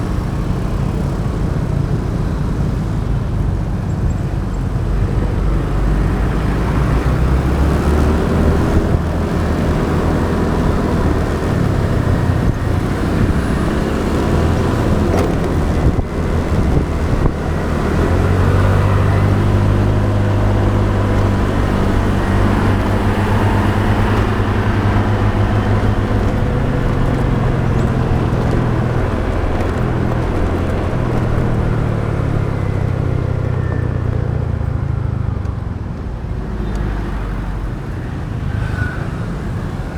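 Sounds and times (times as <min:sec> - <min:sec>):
motorbike engine: 0:00.0 - 0:35.4
passing traffic: 0:00.0 - 0:39.9
road and wind noise: 0:00.0 - 0:39.9.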